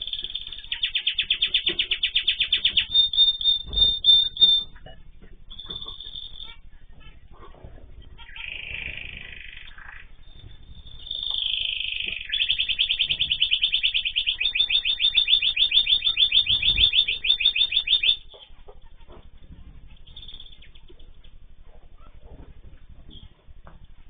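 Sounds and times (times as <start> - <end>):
cage bird trilling: 0.0 - 7.2, 8.0 - 19.2, 19.9 - 21.3.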